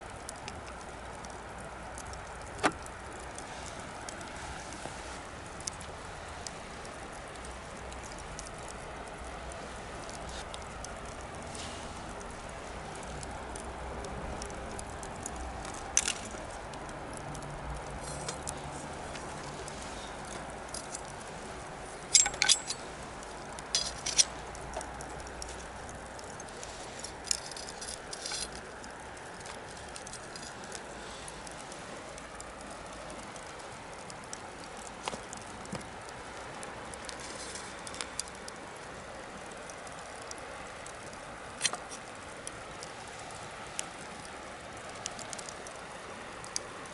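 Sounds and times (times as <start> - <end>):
bonfire crackling and popping: 0.0 - 46.9
steady hiss: 0.3 - 46.9.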